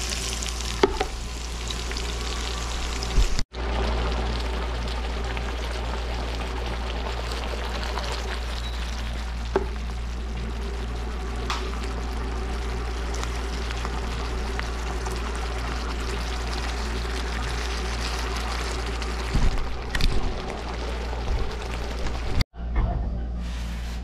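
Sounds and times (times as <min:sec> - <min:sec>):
sauce bubbling and sizzling in a pan: 0:00.0 - 0:22.5.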